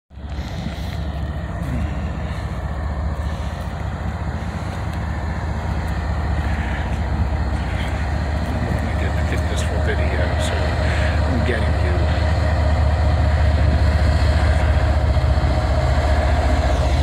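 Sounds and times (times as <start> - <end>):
locomotive engine rumble: 0.1 - 17.0.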